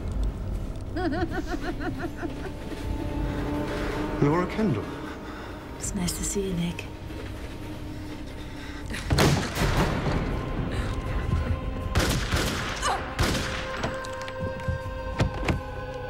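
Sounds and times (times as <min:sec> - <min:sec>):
sustained music: 0:00.0 - 0:16.0.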